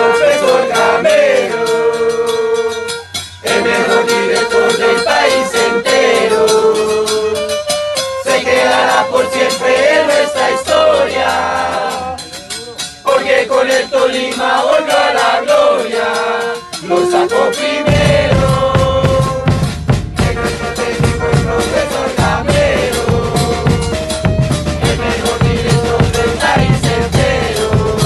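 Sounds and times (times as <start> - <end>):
crowd singing a chant: 0.0 - 7.6, 8.2 - 28.0
rattle-like percussion: 0.0 - 28.0.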